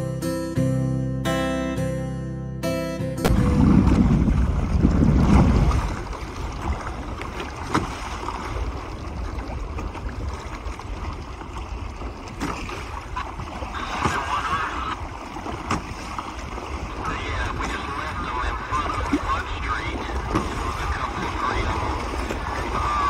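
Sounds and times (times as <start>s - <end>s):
water slapping along hull: 3.2s - 23.0s
wind buffeting microphone: 3.3s - 23.0s.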